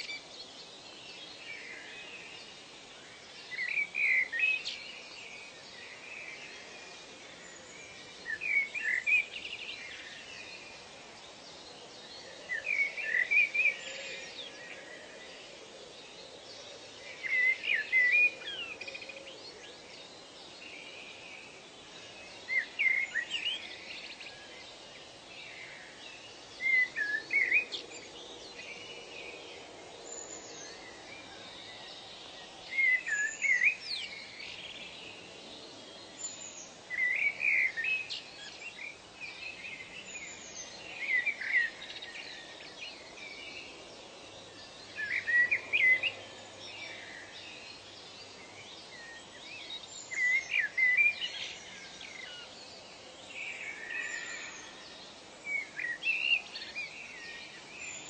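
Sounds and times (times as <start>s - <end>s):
forest ambience hiss: 0.0s - 58.0s
songbird chirping: 0.0s - 58.0s.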